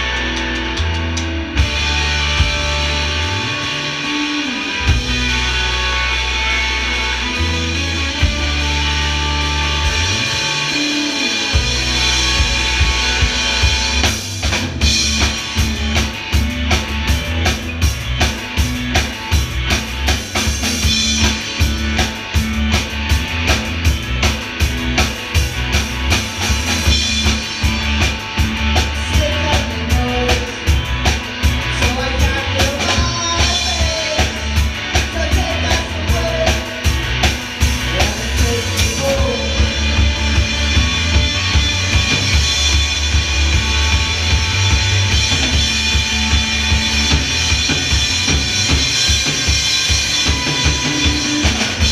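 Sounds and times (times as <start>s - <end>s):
electric guitars: 0.0s - 51.9s
fast drum-kit beats: 0.0s - 51.9s.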